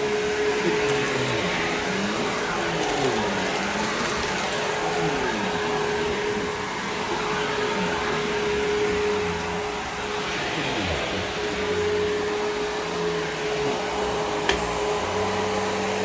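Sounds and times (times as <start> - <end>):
upright vacuum running: 0.0 - 16.0.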